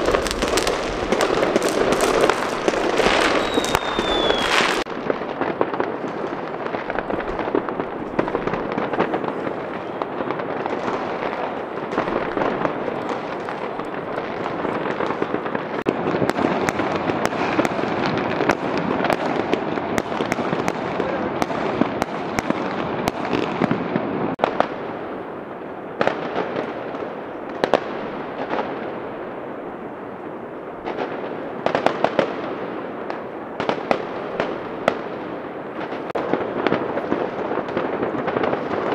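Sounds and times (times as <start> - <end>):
fireworks crackling and banging: 0.0 - 38.9.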